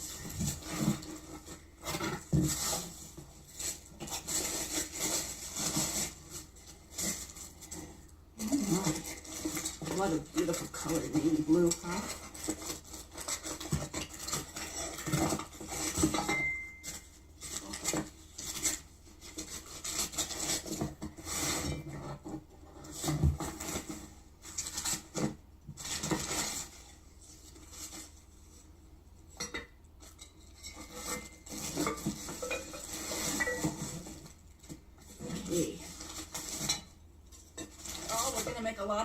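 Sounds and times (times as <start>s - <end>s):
packaging rustling and scraping: 0.0s - 39.0s.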